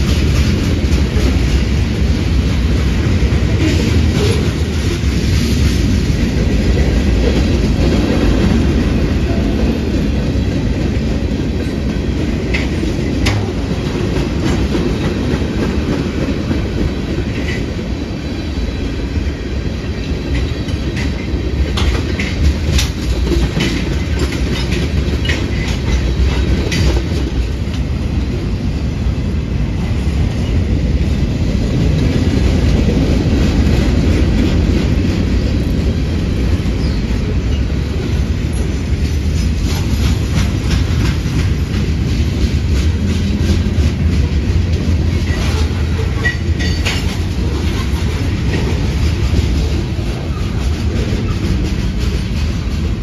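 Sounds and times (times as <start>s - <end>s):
wheels clacking over rail joints: 0.0s - 18.0s, 19.9s - 28.0s, 31.7s - 53.0s
steel wheels rumbling on rail: 0.0s - 53.0s.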